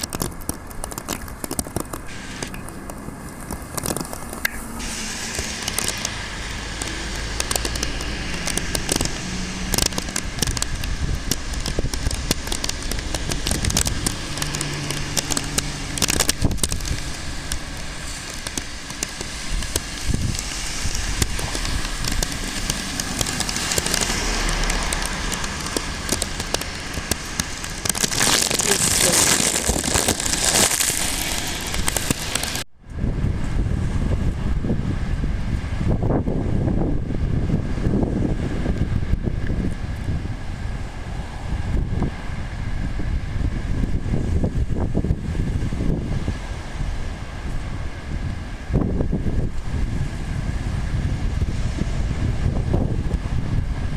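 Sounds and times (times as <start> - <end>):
raindrops hitting microphone: 0.0 - 53.9
wind and rain rushing: 0.0 - 53.9.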